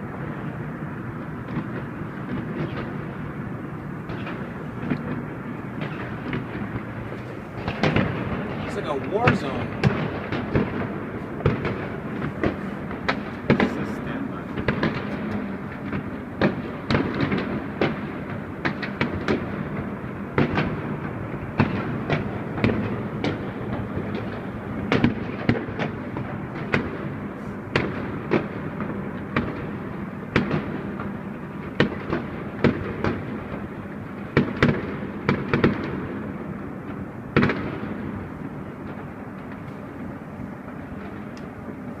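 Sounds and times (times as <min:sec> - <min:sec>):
rumble of distant blasts: 0:00.0 - 0:42.0
sharp firecracker bangs: 0:01.4 - 0:40.1.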